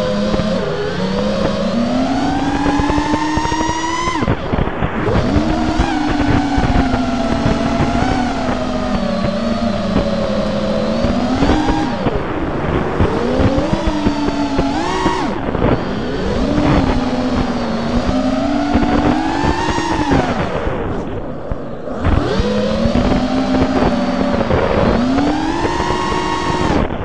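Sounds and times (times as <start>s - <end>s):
drone propellers buzzing: 0.0s - 27.0s
wind rush: 0.0s - 27.0s.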